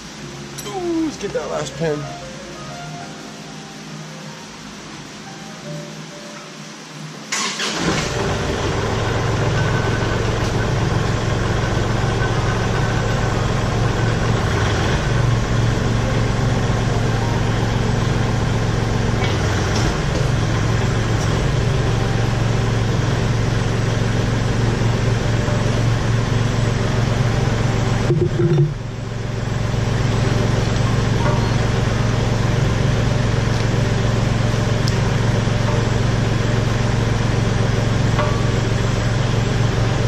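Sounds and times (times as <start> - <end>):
tractor diesel engine running: 7.3 - 40.0.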